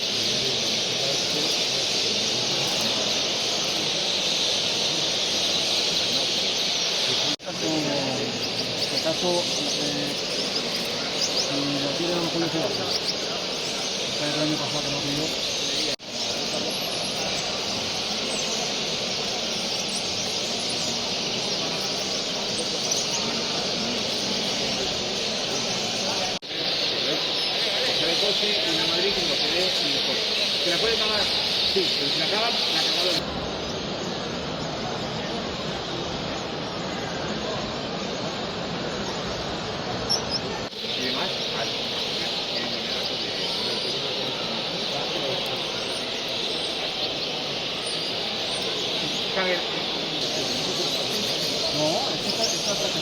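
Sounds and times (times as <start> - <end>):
finches chirping: 0.0 - 34.8, 35.8 - 53.0.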